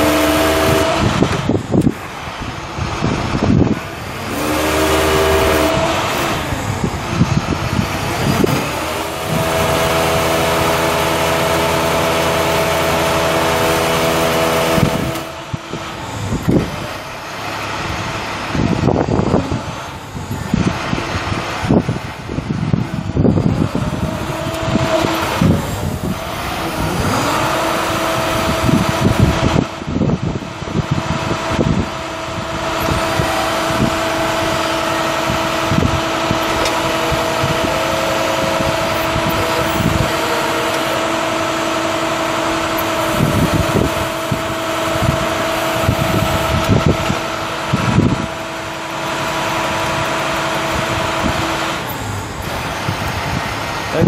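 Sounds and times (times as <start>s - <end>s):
diesel engine running: 0.0s - 54.0s
steady engine whine: 0.0s - 54.0s.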